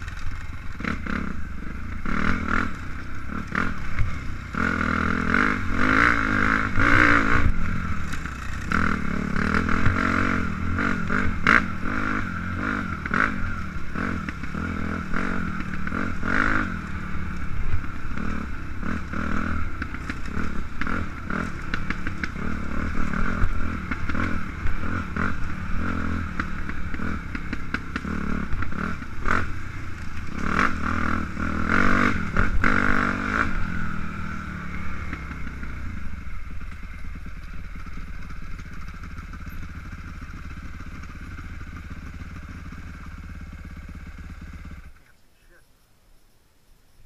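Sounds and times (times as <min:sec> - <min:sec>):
dirt bike engine revving: 0:00.0 - 0:45.1.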